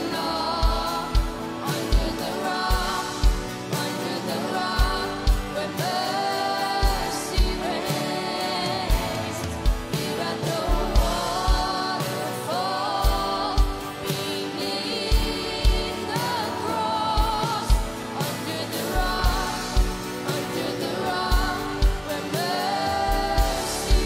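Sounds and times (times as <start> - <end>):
backing singers: 0.0 - 24.0
band playing: 0.0 - 24.0
woman singing lead vocal: 0.0 - 24.0.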